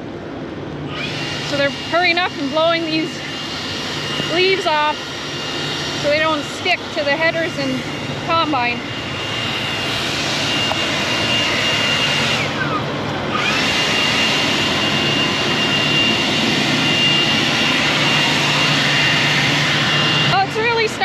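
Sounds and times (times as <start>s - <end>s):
leaf blower running: 0.0s - 21.0s.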